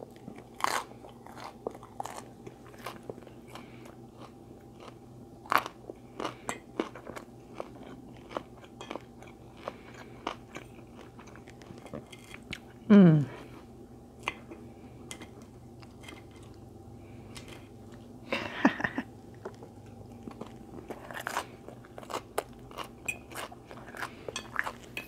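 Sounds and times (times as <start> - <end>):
person chewing food: 0.0 - 12.8, 13.4 - 18.2, 18.8 - 25.0.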